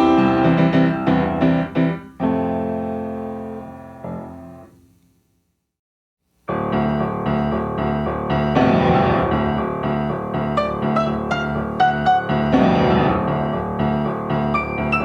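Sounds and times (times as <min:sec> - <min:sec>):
keyboard chords: 0:00.0 - 0:04.7, 0:06.5 - 0:15.0.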